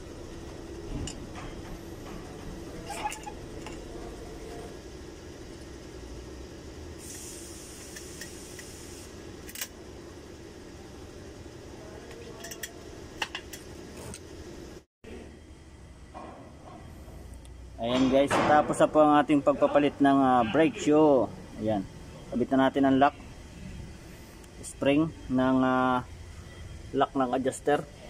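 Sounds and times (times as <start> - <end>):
workshop hum: 0.0 - 28.0.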